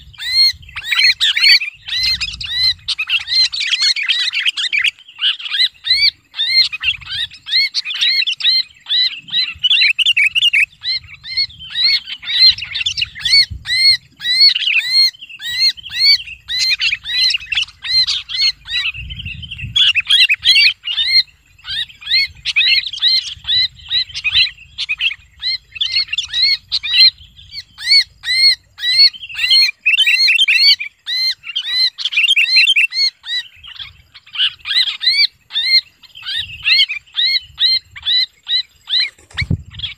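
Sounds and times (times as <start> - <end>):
bird harsh distress calls: 0.0 - 39.9.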